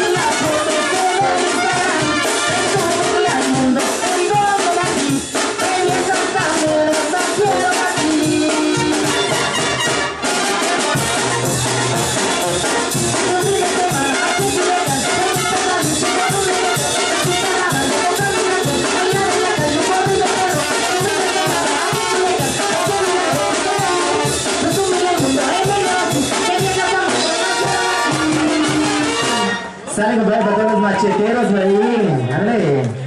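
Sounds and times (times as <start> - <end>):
brass band playing: 0.0 - 31.9.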